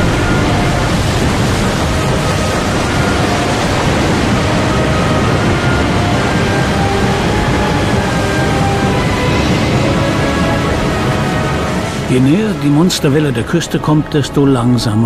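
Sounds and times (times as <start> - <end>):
stormy sea: 0.0 - 15.0.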